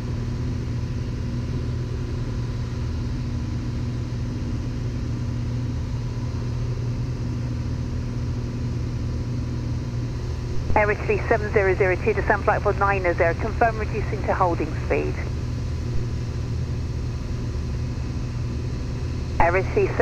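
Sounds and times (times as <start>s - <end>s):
aircraft engine drone in cabin: 0.0s - 20.0s.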